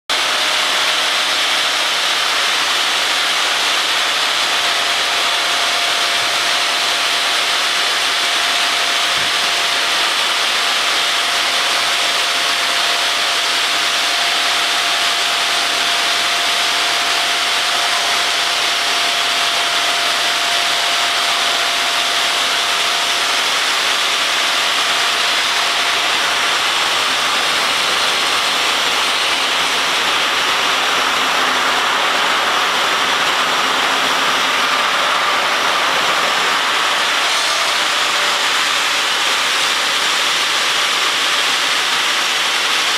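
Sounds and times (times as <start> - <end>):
faint steady whine: 0.1 - 42.7
stone cutting saw: 0.1 - 42.9.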